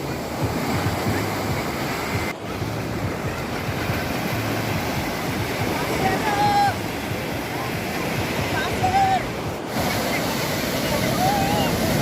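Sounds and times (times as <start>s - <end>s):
sea water rushing: 0.0s - 12.0s.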